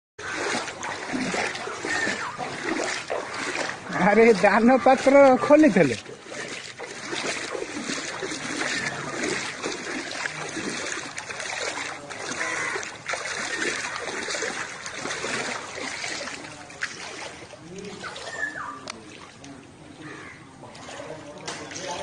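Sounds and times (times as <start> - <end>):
water flowing and splashing: 0.2 - 22.0.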